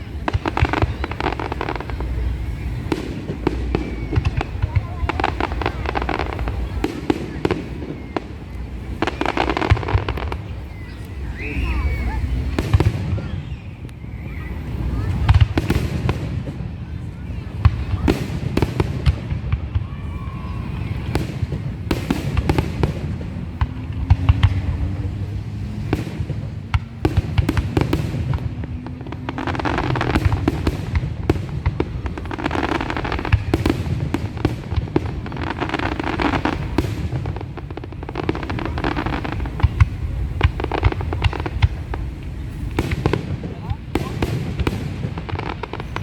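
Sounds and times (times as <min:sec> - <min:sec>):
fireworks bangs: 0:00.0 - 0:46.0
fireworks crackling: 0:00.0 - 0:46.0.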